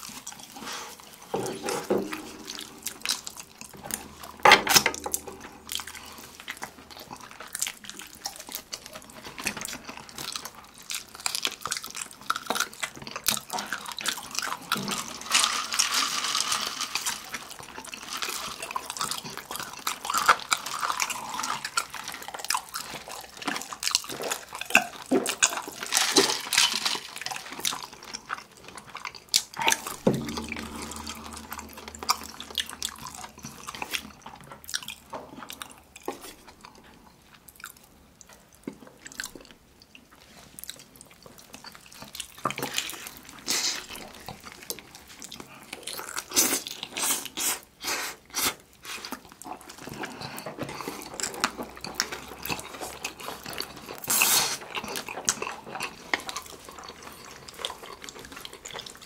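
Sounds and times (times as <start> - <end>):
chewing and biting food: 0.0 - 31.3, 32.4 - 59.0.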